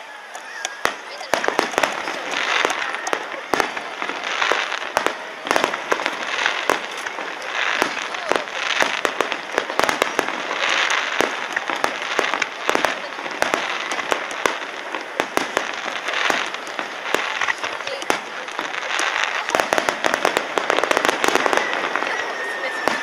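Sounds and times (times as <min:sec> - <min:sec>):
fireworks bursting with sharp pops: 0:00.0 - 0:23.0
fireworks crackle: 0:00.0 - 0:23.0.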